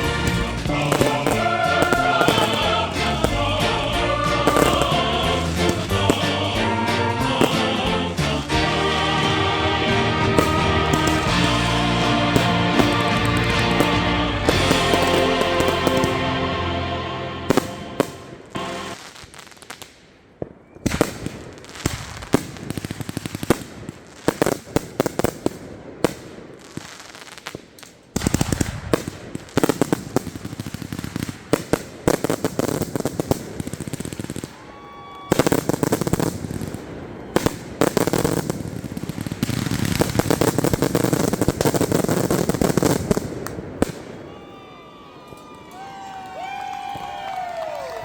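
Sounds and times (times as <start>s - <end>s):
fireworks bangs and pops: 0.0s - 16.4s, 17.5s - 34.6s, 35.3s - 44.2s
fireworks crackling: 0.0s - 20.2s, 20.8s - 44.3s.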